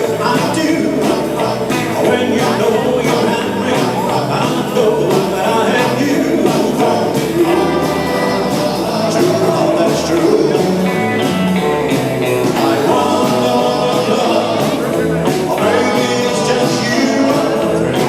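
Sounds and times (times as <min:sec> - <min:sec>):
live rock and roll band: 0:00.0 - 0:18.0
person singing: 0:00.0 - 0:18.0.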